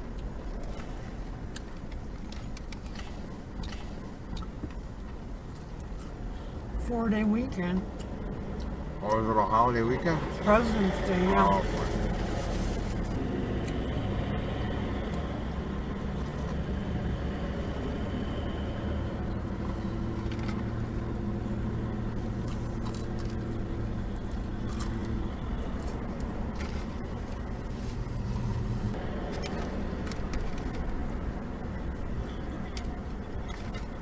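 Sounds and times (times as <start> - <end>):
car cabin rumble: 0.0 - 34.0.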